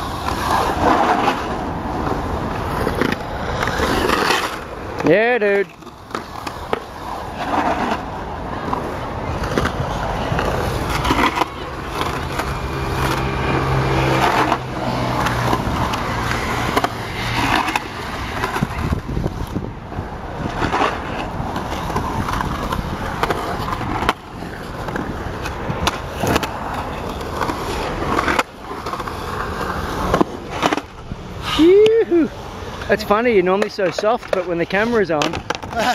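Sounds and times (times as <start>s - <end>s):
skateboard wheels rolling on concrete: 0.0s - 35.9s
skateboard knocking on concrete: 0.3s - 31.2s, 32.6s - 35.9s.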